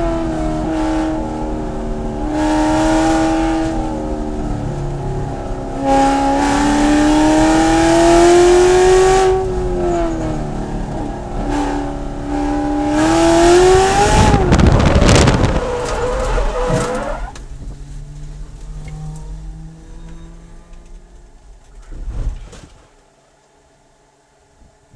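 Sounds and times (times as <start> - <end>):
racecar engine accelerating: 0.0 - 22.8
rough engine noise: 0.0 - 22.8.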